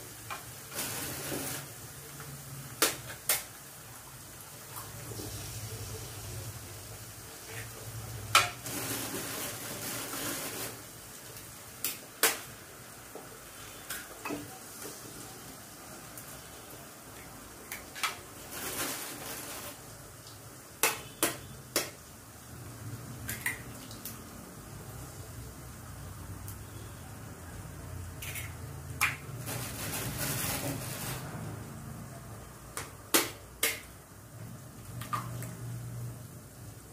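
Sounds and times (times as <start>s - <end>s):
eggs sizzling in hot oil: 0.0s - 31.8s.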